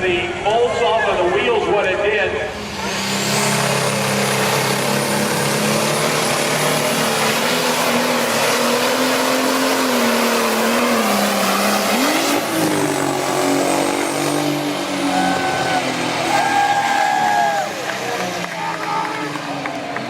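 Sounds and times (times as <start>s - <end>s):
engine running hard under load: 2.5s - 20.0s.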